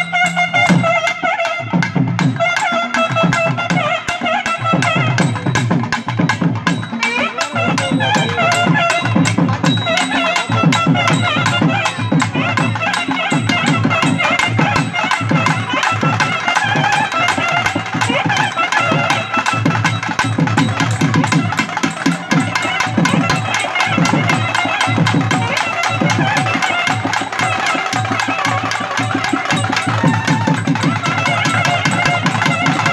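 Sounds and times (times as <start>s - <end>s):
fast drumming: 0.0s - 32.9s
loud reedy wind instrument melody: 0.0s - 32.9s.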